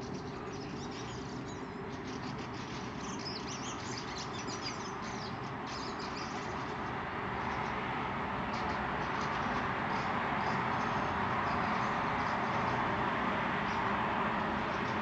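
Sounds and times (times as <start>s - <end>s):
birds twittering and chirping: 0.0s - 15.0s.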